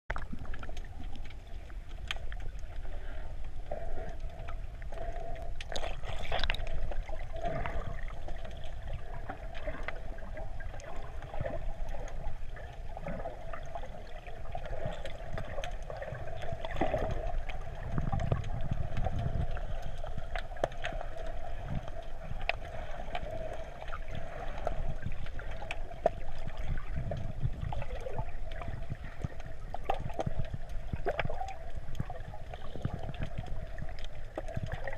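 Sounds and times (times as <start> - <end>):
underwater moving water rumble: 0.1 - 34.9.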